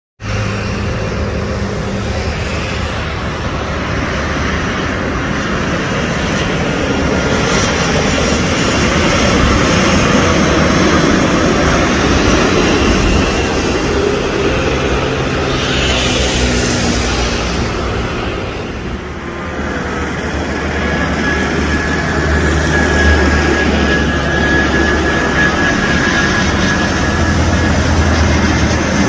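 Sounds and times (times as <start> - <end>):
airliner jet engines: 0.2 - 29.0.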